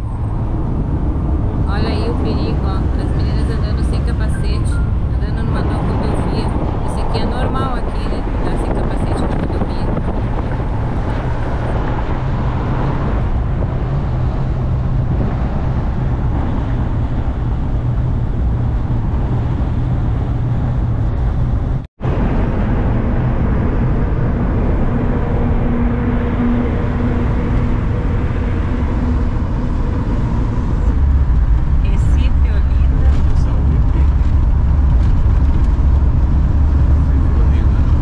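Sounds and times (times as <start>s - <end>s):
van engine and road noise: 0.0s - 38.0s.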